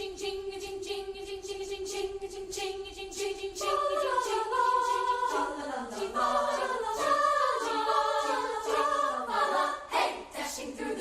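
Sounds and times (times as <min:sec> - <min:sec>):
choir singing wordless harmony: 0:00.0 - 0:11.0.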